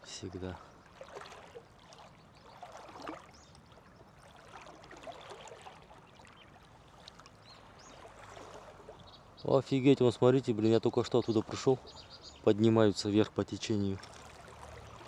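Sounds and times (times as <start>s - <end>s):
small water splashes: 0.0s - 15.0s
water trickling and sloshing: 0.0s - 15.0s.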